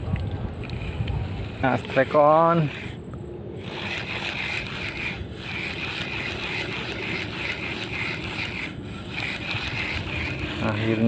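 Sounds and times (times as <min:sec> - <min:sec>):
fishing reel whirring: 0:00.6 - 0:11.0.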